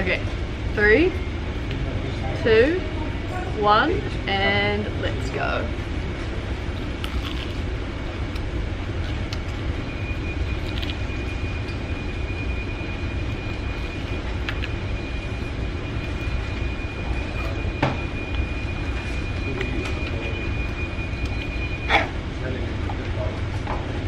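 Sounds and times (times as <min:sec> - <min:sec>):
low room rumble: 0:00.0 - 0:24.0.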